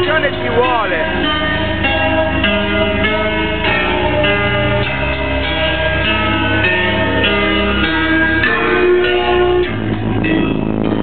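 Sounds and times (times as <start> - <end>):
strong steady bass line: 0.0 - 11.0
sustained chiming notes: 0.0 - 11.0.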